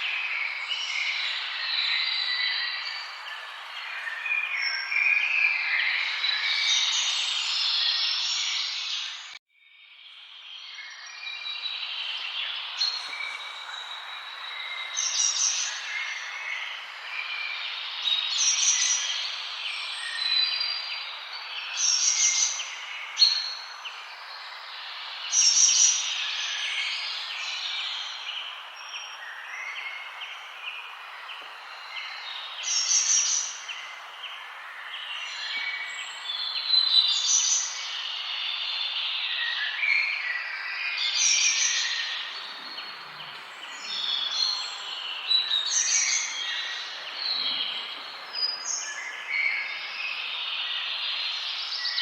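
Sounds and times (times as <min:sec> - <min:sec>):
songbirds chirping and singing: 0:00.0 - 0:09.4, 0:10.2 - 0:52.0
forest background hiss: 0:00.0 - 0:52.0.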